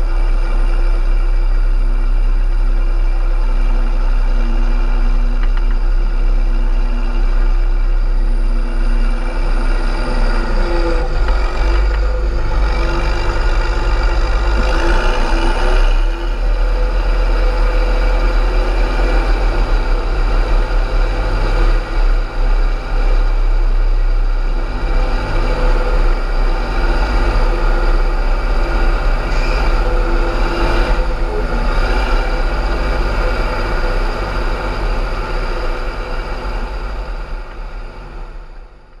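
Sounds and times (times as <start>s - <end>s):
tractor diesel engine running hard: 0.0s - 39.0s.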